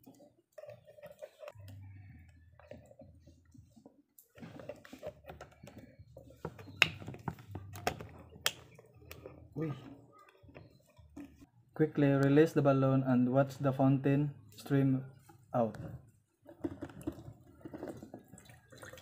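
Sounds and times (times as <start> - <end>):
rubber and plastic crackling: 0.0 - 11.5, 14.5 - 19.0.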